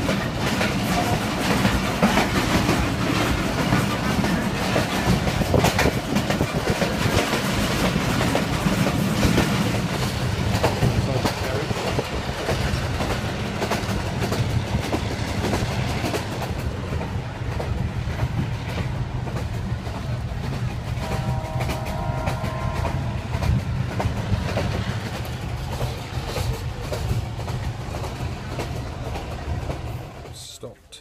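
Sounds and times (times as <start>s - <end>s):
wheels clattering over track: 0.0s - 30.4s
train carriage rumbling: 0.0s - 31.0s.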